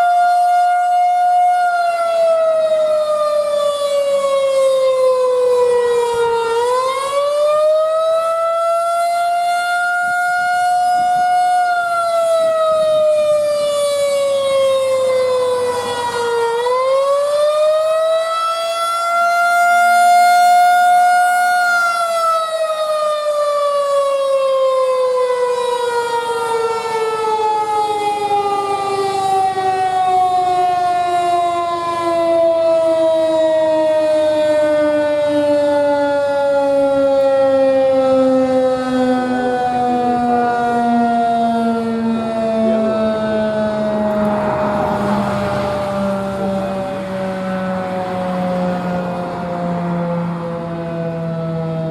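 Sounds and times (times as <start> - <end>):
warning siren wailing: 0.0 - 51.9.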